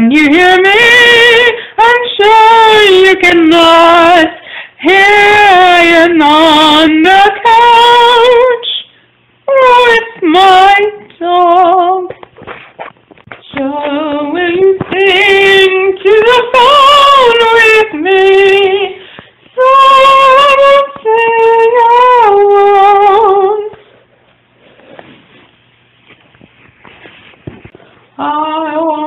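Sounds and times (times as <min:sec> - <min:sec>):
woman singing unaccompanied: 0:00.0 - 0:12.2, 0:13.3 - 0:23.8, 0:28.1 - 0:29.0.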